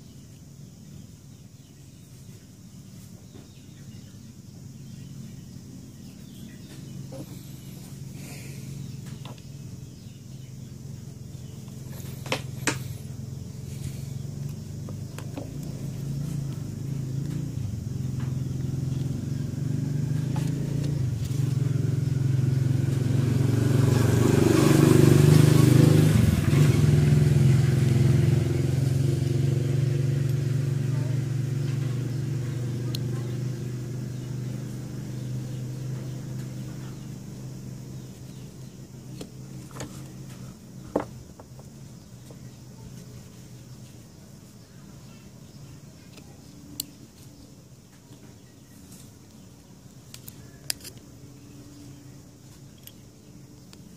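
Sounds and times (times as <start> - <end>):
motor engine humming: 2.6 - 24.5, 25.1 - 53.9.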